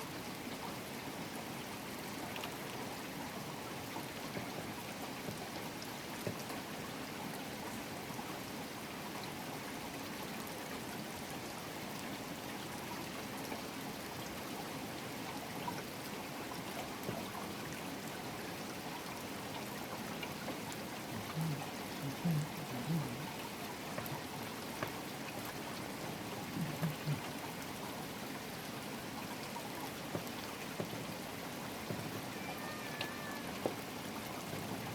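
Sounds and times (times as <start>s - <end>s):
steady rain falling: 0.0s - 34.9s
water running and trickling: 0.0s - 34.9s.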